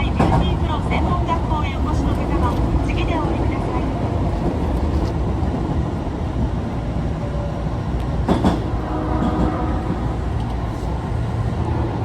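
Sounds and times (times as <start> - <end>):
subway car low rumble: 0.0 - 12.0.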